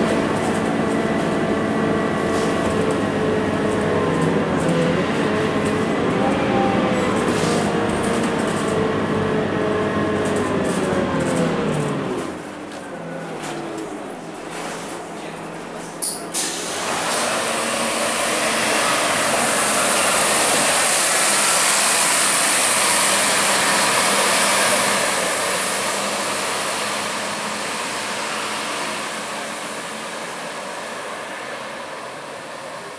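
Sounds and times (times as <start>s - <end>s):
bus engine hum: 0.0s - 32.9s
road noise: 0.0s - 32.9s.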